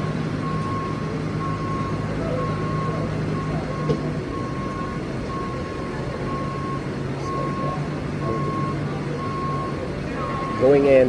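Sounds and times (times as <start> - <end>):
reversing alarm beeping: 0.0 - 11.0
vehicle engine drone: 0.0 - 11.0.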